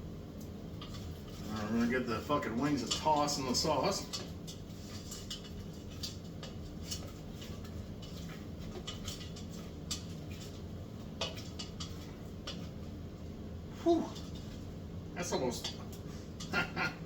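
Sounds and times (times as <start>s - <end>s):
low steady hum: 0.0s - 17.0s
utensils clattering against dishes: 0.8s - 12.8s, 13.9s - 14.6s, 15.2s - 17.0s.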